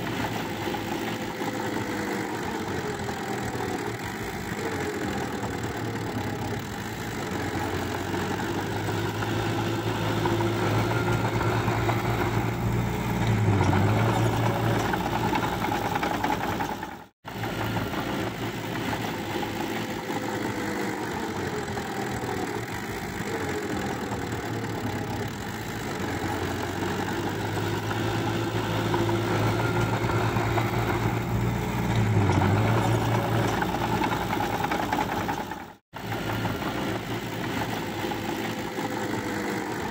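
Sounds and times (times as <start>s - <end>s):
bulldozer diesel engine clattering: 0.0s - 39.9s.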